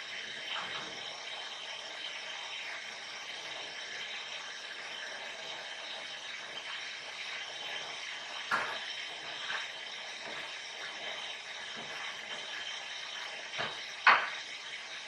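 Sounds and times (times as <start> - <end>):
gas burner hiss: 0.0 - 15.0.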